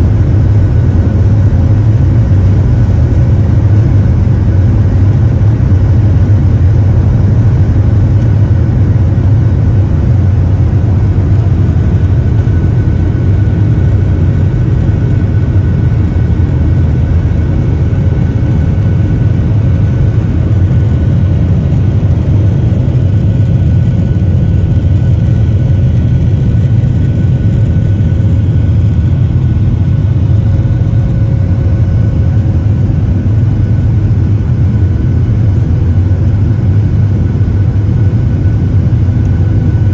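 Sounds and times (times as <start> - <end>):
faint engine whine: 0.0 - 39.9
jet engine rumble: 0.0 - 39.9.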